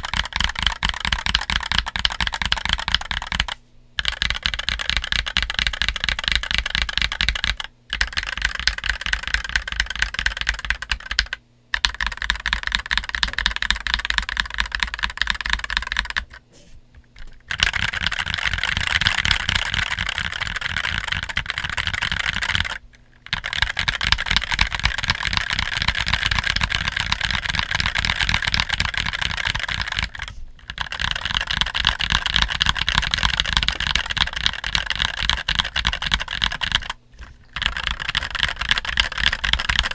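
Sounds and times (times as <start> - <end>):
mechanical keyboard typing: 0.0 - 16.4, 17.1 - 39.9.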